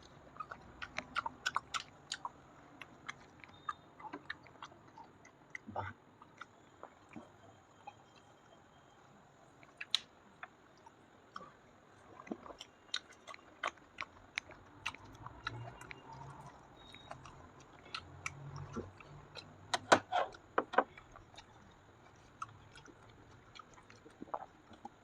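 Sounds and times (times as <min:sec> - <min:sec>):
wet chewing mouth clicks: 0:00.0 - 0:08.0, 0:09.6 - 0:19.6, 0:20.2 - 0:25.0.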